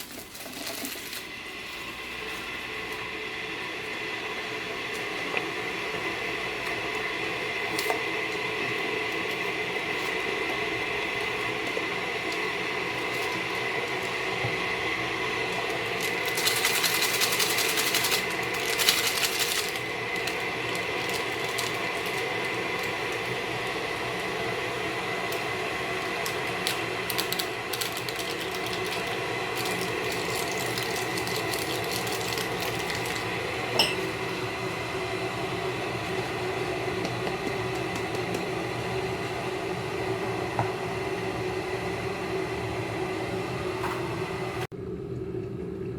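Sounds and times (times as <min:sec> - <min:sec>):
mechanical hum with whine: 0:00.0 - 0:45.9.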